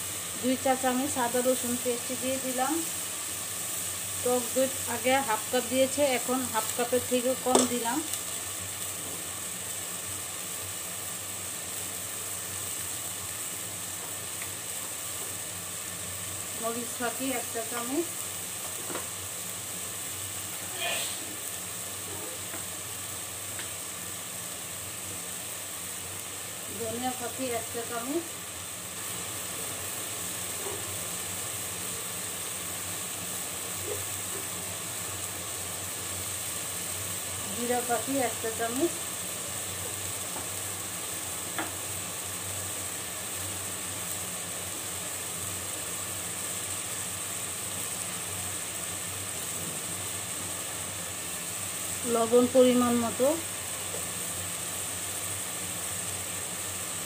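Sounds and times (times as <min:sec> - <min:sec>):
paste sizzling in a pot: 0:00.0 - 0:57.0.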